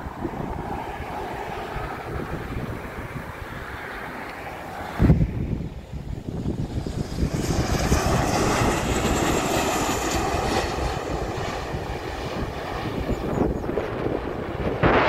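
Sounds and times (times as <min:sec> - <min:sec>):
faint high jet whine: 0:00.0 - 0:15.0
jet engines rumbling: 0:00.0 - 0:15.0.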